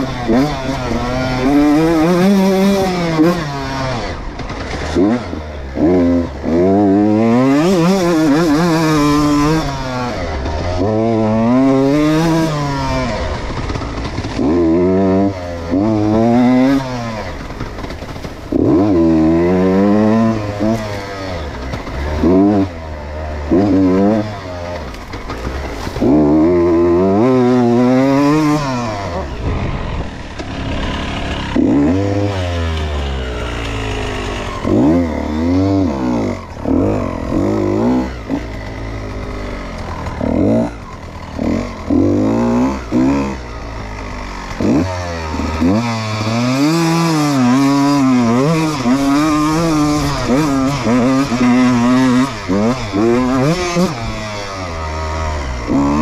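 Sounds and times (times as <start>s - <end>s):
two-stroke motorcycle engine revving: 0.0s - 56.0s.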